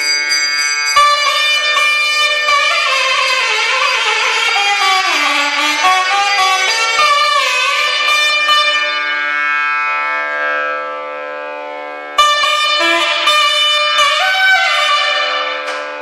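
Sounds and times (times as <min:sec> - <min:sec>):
electronic drone: 0:00.0 - 0:16.0
nadhaswaram melody: 0:00.0 - 0:16.0.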